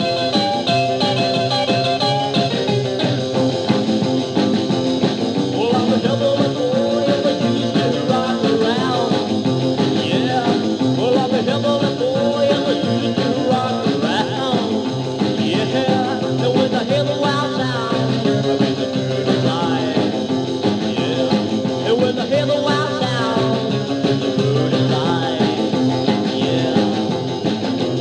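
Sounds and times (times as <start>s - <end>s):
rockabilly guitar over beat: 0.0s - 28.0s.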